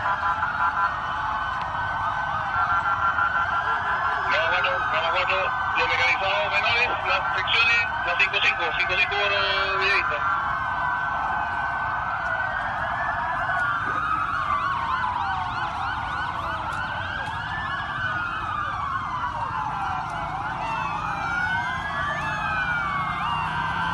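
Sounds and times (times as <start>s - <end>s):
police sirens wailing and yelping: 0.0s - 23.9s.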